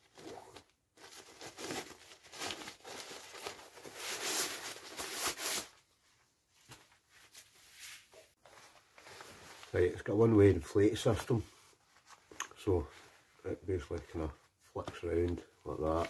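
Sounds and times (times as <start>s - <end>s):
fabric crinkling and rustling: 0.0s - 16.0s.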